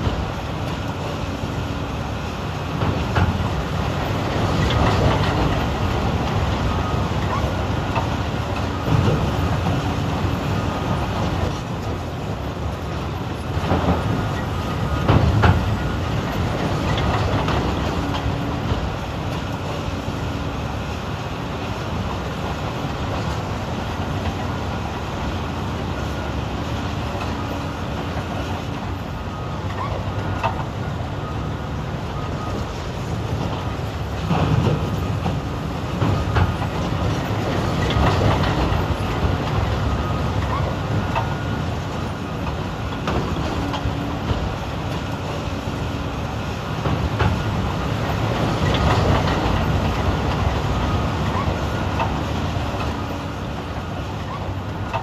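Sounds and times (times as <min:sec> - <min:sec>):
heavy diesel machinery clattering: 0:00.0 - 0:55.0.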